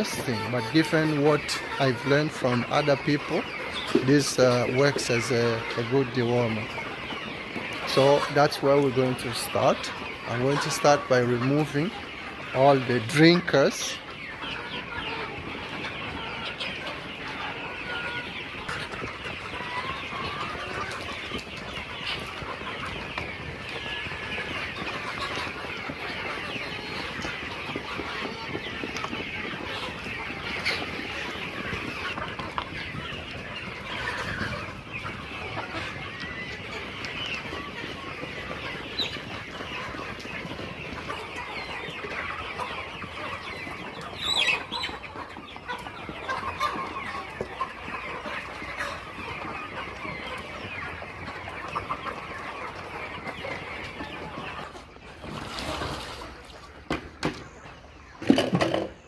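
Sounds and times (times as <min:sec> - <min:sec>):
chickens clucking and cheeping: 0:00.0 - 0:59.0.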